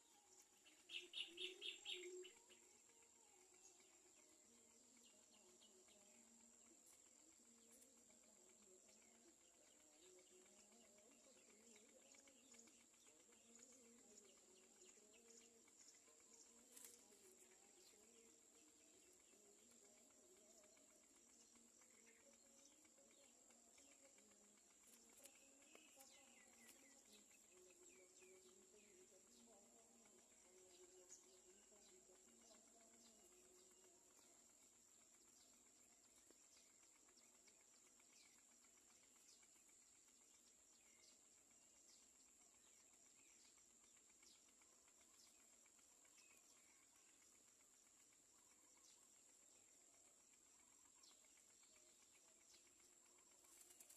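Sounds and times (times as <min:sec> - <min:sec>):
faint bird chirps: 0:00.0 - 0:53.9.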